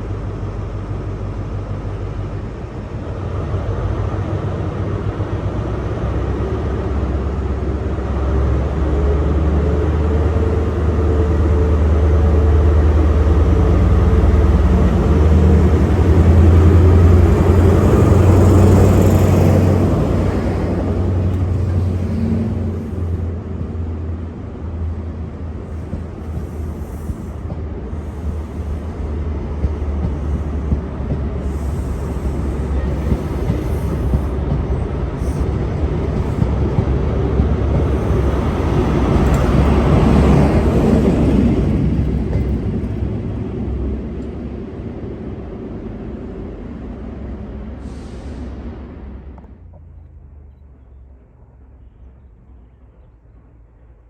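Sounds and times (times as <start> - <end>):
train engine humming: 0.0 - 54.0.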